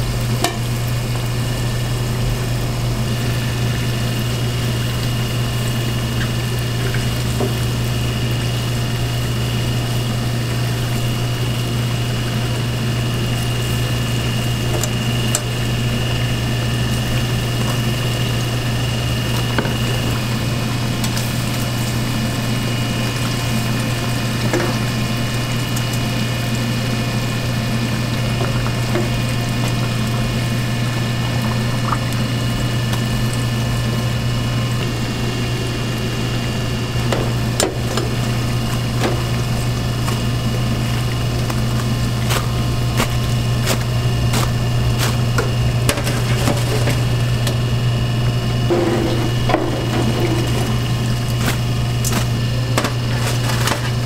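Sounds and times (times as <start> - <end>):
low hum: 0.0 - 22.4, 26.9 - 54.0
oil bubbling and sizzling: 0.0 - 54.0.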